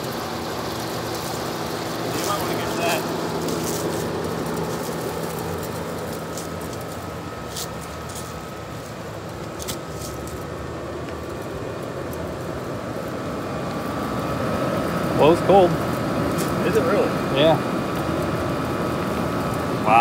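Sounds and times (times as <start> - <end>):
air conditioner fan rushing: 0.0 - 20.0
low compressor hum: 0.0 - 20.0.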